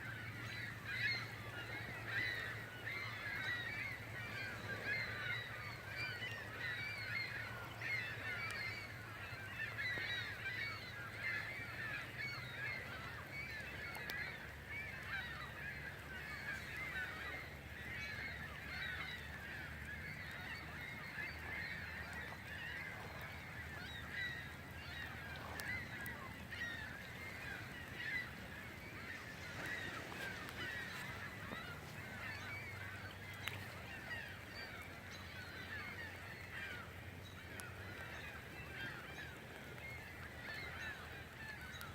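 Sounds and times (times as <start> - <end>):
chorus of bird calls: 0.0 - 41.9.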